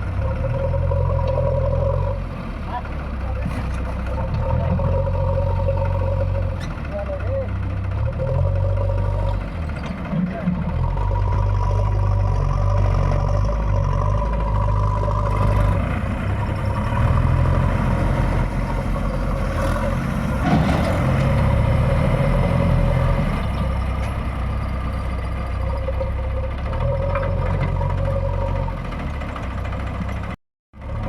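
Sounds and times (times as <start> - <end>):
backhoe diesel engine digging: 0.0 - 31.0.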